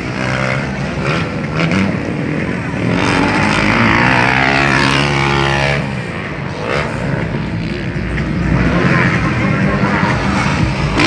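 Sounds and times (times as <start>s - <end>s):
motocross bike engines: 0.0s - 11.0s.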